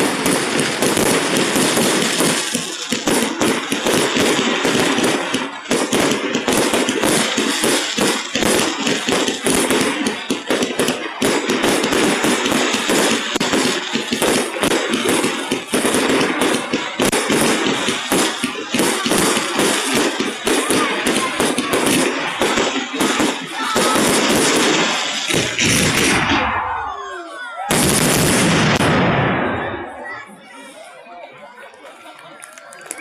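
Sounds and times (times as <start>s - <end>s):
fireworks bursting and crackling: 0.0s - 31.0s, 31.9s - 33.0s.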